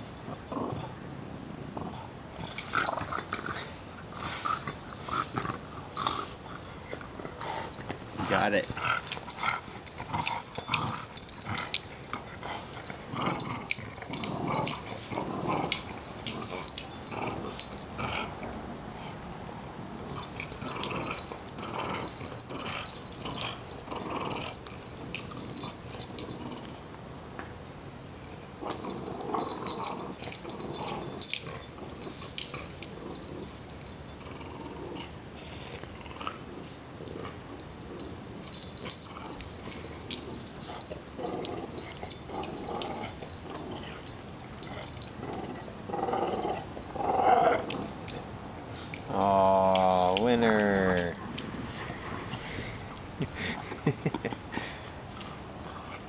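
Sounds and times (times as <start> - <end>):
dogs growling in play: 0.0 - 19.4, 20.0 - 27.0, 28.6 - 56.0.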